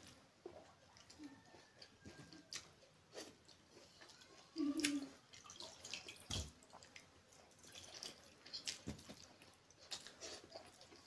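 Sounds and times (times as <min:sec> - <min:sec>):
wet squelches of hand mixing rice: 0:00.0 - 0:11.0.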